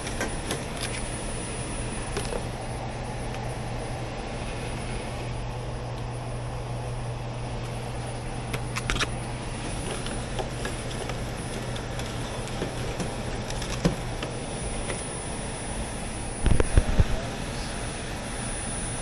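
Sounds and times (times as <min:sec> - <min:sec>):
air-handler unit humming: 0:00.0 - 0:19.0.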